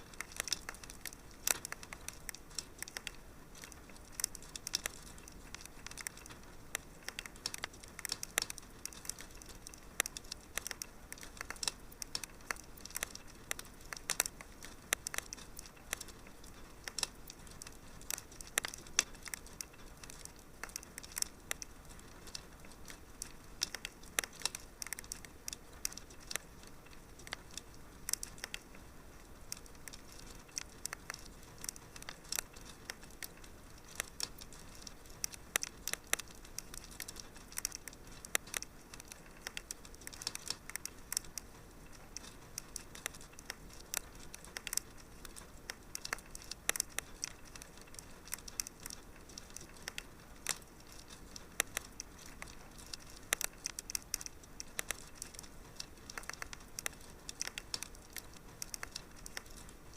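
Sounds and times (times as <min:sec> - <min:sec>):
soft low hiss: 0:00.0 - 0:59.9
wood fire crackling: 0:00.0 - 0:59.9.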